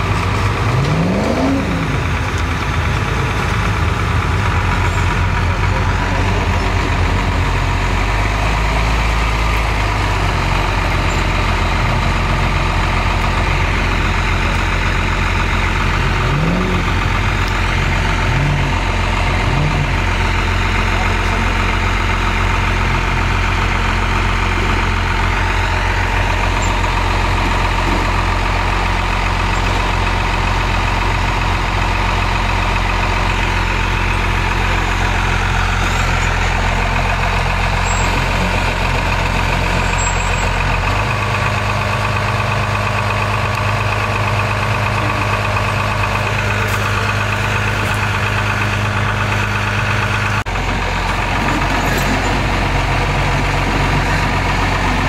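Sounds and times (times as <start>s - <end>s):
engine running at low revs: 0.0s - 55.0s.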